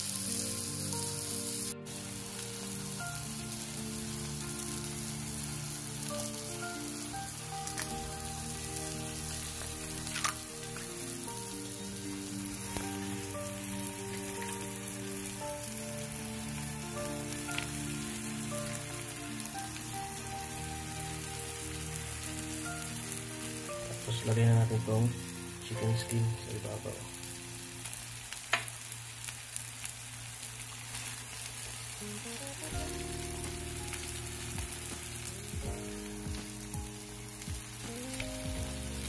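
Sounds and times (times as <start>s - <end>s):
soft background music: 0.0s - 29.3s, 30.9s - 39.0s
meat sizzling on a hot plate: 0.0s - 39.0s.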